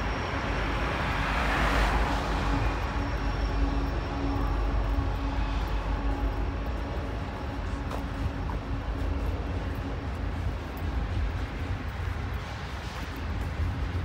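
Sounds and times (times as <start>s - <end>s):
freight train rumbling: 0.0s - 14.0s
steady hum: 2.0s - 14.0s.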